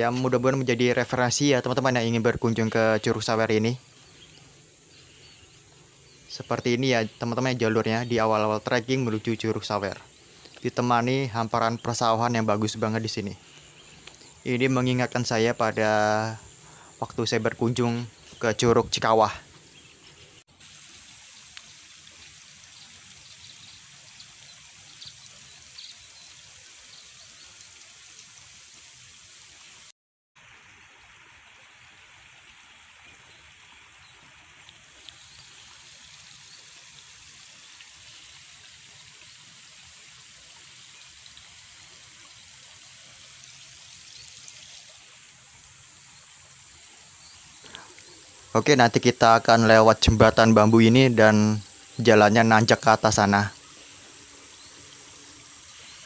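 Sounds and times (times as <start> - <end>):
water trickling through channels: 0.0 - 56.0.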